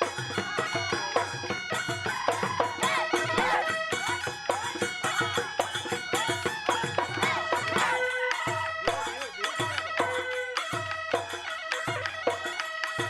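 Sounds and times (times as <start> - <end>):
wind instrument melody: 0.0 - 13.0.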